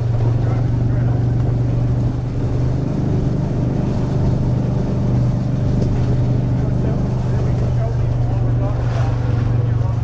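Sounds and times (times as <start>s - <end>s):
utility vehicle engine droning: 0.0s - 10.0s.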